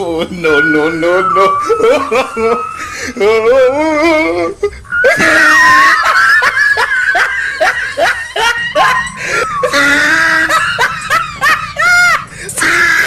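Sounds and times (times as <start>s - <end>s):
person laughing: 0.0s - 13.0s.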